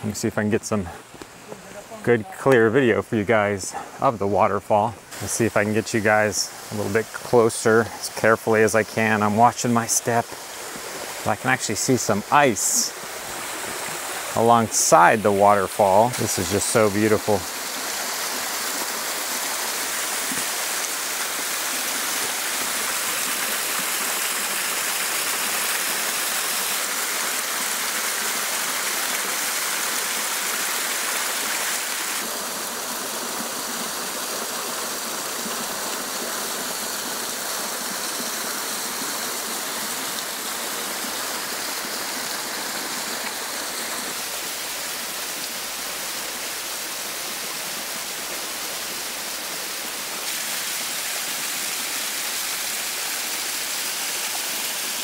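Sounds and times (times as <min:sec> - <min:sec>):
waterfall rushing: 0:03.6 - 0:55.0.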